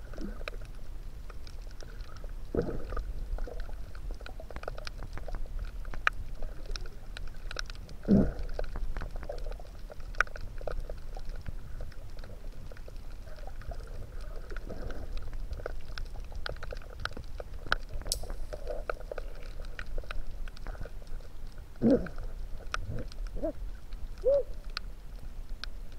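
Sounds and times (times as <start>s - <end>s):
low rumble of water: 0.0s - 25.9s
underwater crackle of clicks: 0.0s - 25.9s.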